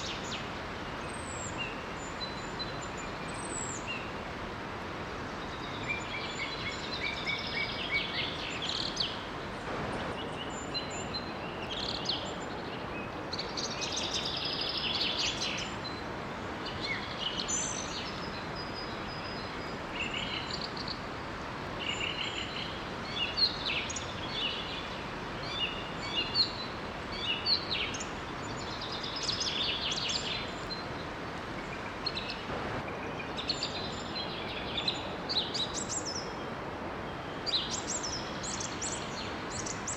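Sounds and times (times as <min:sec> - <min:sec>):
small waterfall rushing: 0:00.0 - 0:39.9
songbirds chirping and trilling: 0:00.0 - 0:39.9.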